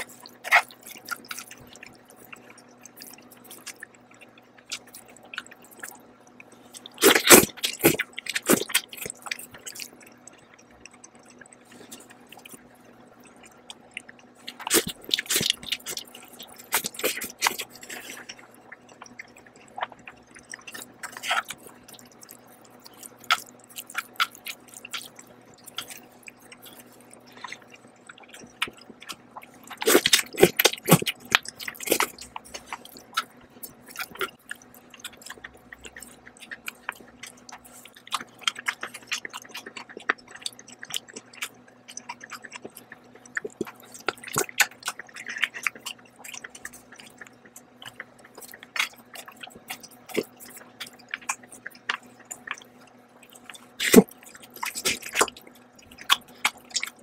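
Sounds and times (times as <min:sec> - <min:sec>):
person chewing noodles: 0:00.0 - 0:57.0.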